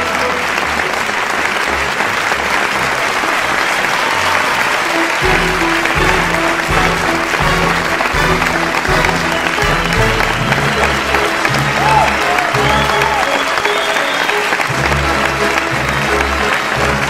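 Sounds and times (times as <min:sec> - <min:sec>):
audience applause: 0:00.0 - 0:17.0
music: 0:00.0 - 0:17.0.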